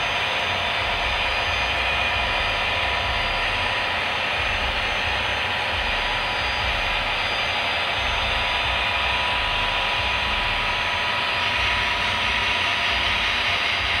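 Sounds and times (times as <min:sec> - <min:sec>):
model train wheels whirring: 0:00.0 - 0:14.0.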